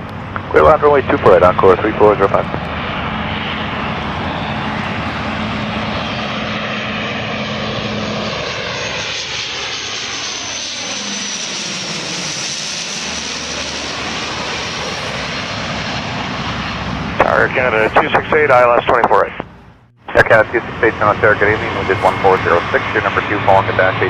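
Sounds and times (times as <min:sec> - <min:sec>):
airliner engines overhead: 0:00.0 - 0:24.0.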